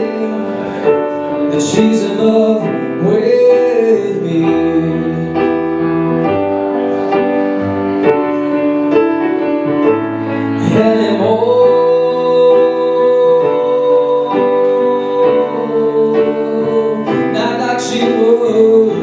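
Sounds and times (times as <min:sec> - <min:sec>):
person singing: 0:00.0 - 0:19.0
piano chords: 0:00.0 - 0:19.0.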